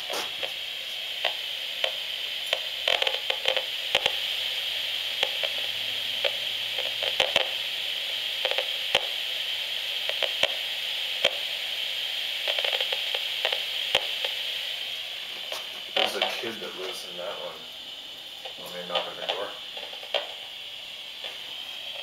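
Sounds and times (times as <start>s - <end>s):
sharp crackling clicks: 0.0s - 9.3s, 10.0s - 11.7s, 12.3s - 14.5s, 15.4s - 17.5s, 18.3s - 20.6s, 21.2s - 22.0s
steady high hiss: 0.0s - 22.0s.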